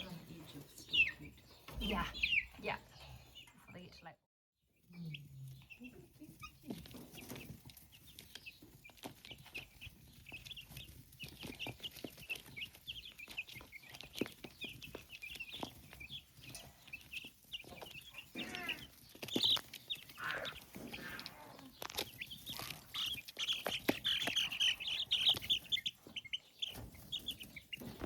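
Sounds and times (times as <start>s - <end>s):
baby chicks cheeping: 0.0s - 28.0s.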